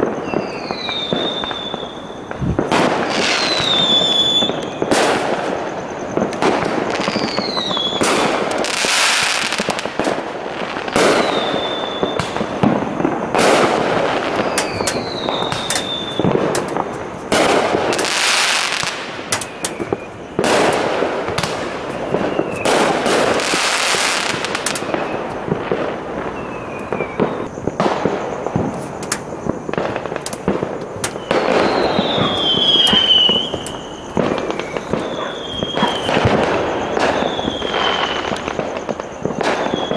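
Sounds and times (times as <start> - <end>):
fireworks bangs and crackles: 0.0 - 39.9
fireworks whistling down: 0.0 - 39.9.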